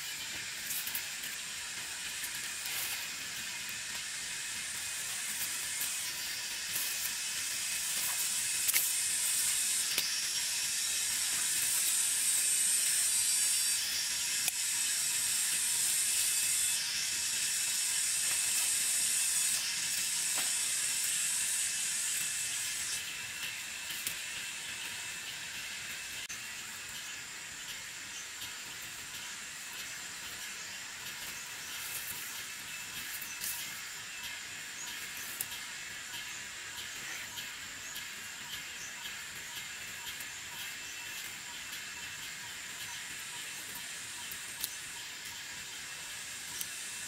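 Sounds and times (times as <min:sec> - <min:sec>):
insect chorus buzzing: 0:00.0 - 0:47.0
weeds rustling and being cut: 0:00.0 - 0:47.0.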